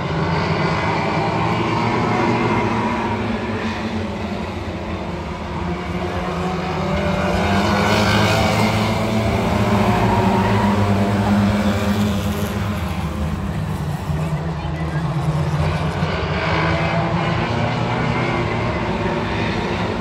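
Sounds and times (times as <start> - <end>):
stock car engines racing past: 0.0 - 20.0.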